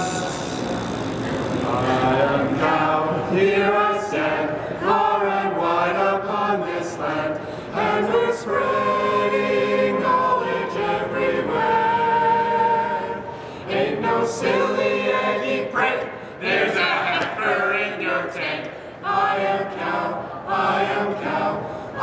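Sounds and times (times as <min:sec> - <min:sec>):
group of voices singing: 0:00.0 - 0:00.8, 0:01.6 - 0:22.0.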